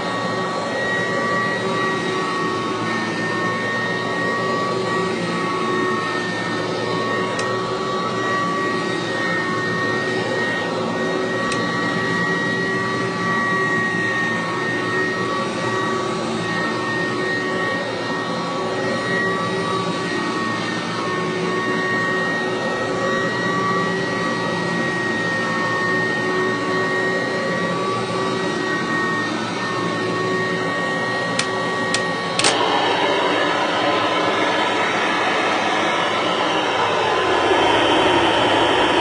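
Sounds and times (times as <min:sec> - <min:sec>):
high-pitched motor whine: 0:00.0 - 0:39.0
vacuum cleaner running: 0:00.0 - 0:39.0.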